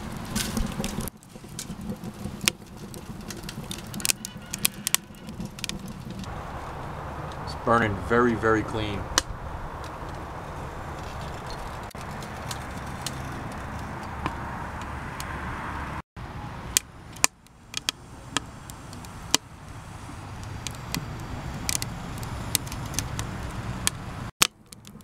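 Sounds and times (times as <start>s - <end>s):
burning wood popping and snapping: 0.0s - 7.6s, 9.0s - 15.4s, 16.7s - 25.0s
steady rushing noise: 0.0s - 24.3s.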